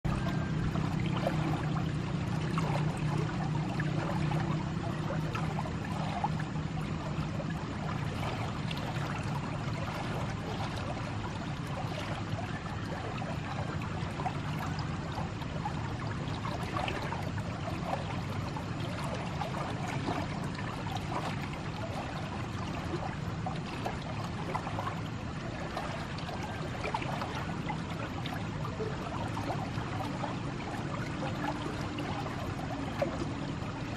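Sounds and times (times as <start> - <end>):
fast water rushing in canal: 0.0 - 33.9.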